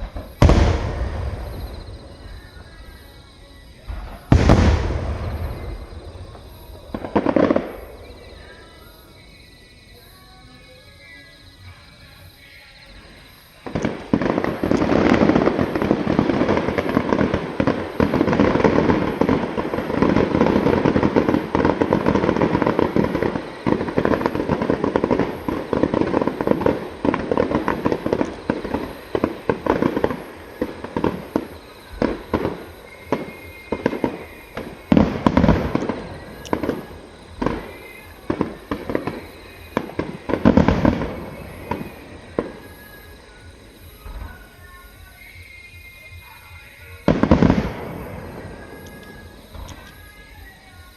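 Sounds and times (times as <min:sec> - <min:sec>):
heavy firework booms: 0:00.0 - 0:09.4, 0:13.6 - 0:44.5, 0:47.0 - 0:49.9
fireworks bursting: 0:00.0 - 0:50.9
fireworks crackling: 0:00.0 - 0:50.9.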